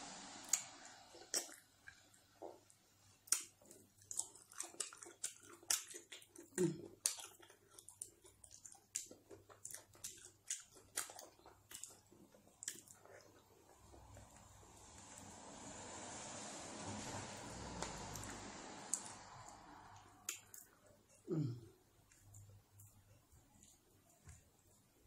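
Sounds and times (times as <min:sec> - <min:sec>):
chewing and wet mouth smacks: 0:00.5 - 0:14.5, 0:17.8 - 0:21.3, 0:22.0 - 0:24.8.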